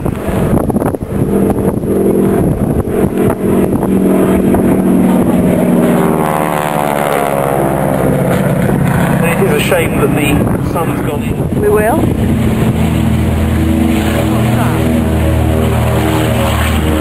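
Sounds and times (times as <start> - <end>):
propeller plane passing low: 0.0 - 17.0.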